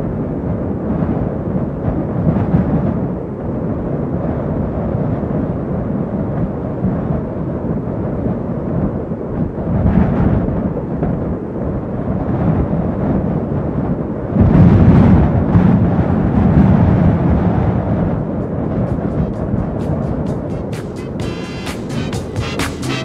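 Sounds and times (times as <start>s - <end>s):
wind buffeting microphone: 0.0s - 21.2s.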